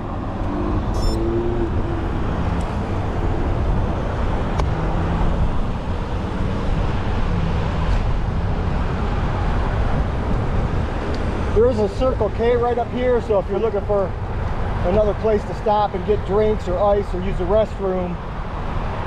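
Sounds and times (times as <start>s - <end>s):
road traffic with cars passing: 0.0s - 19.0s.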